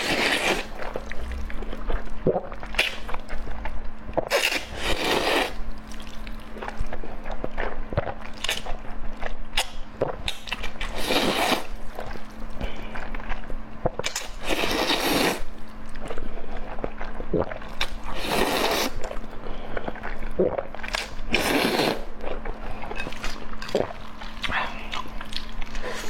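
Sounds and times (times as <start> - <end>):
noisy eating bursts: 0.0 - 26.0
wet chewing: 0.0 - 26.0.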